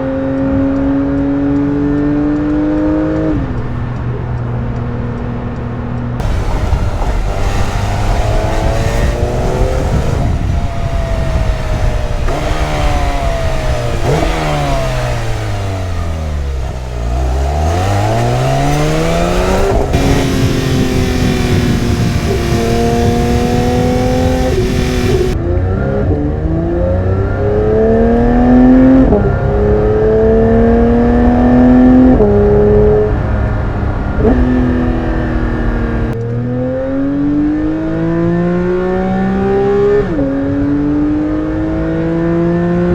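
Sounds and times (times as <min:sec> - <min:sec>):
sports car engine revving: 0:05.8 - 0:42.9.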